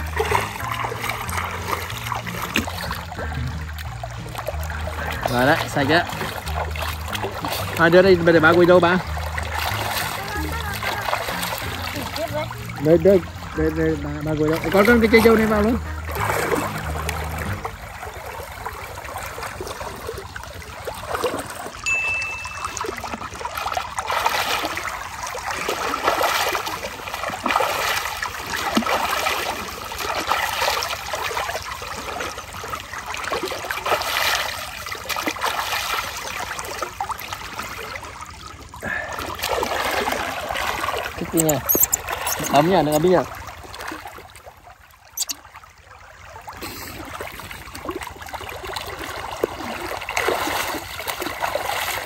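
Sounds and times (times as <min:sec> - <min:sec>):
river water splashing: 0:00.0 - 0:52.0.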